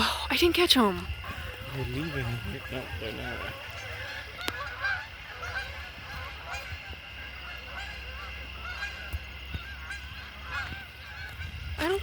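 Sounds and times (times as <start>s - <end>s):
geese honking: 0.3s - 12.0s.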